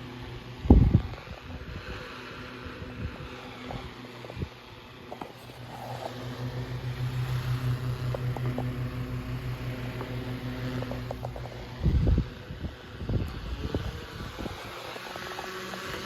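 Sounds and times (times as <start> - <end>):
table fan motor hum: 0.0 - 16.0.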